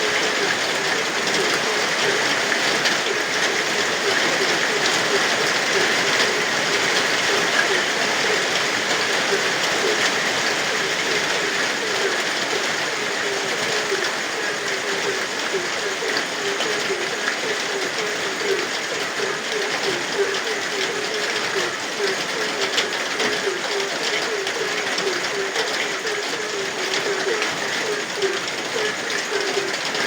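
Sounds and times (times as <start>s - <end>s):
frogs croaking: 0.0s - 30.0s
rain falling: 0.0s - 30.0s.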